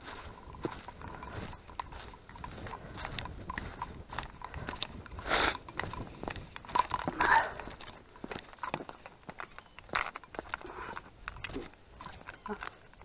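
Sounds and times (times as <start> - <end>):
footsteps crunching on trail: 0.0 - 13.0
rustle: 0.0 - 13.0.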